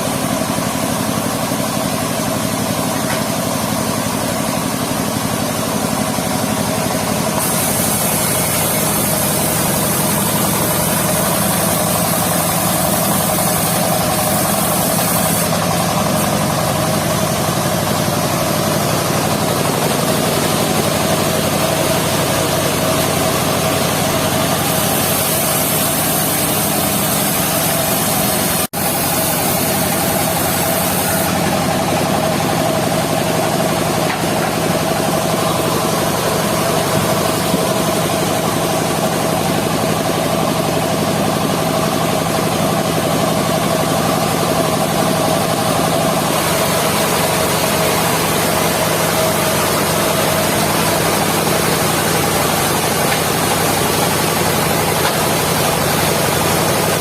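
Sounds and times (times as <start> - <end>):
sawmill running: 0.0 - 57.0.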